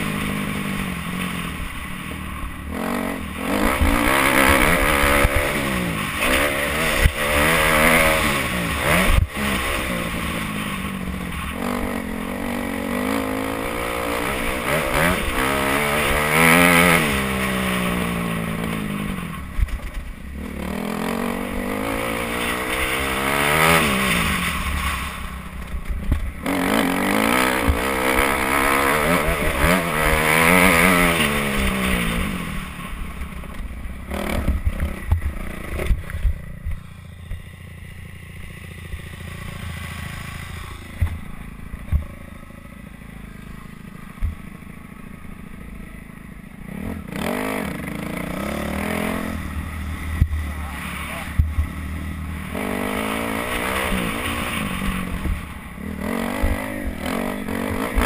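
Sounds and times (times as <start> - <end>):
motocross engine revving: 0.0 - 37.5, 38.6 - 58.0.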